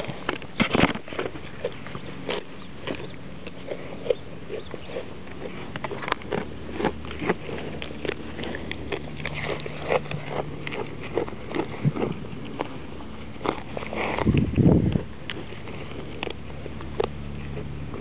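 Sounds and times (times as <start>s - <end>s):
goat chewing grass: 0.0s - 18.0s.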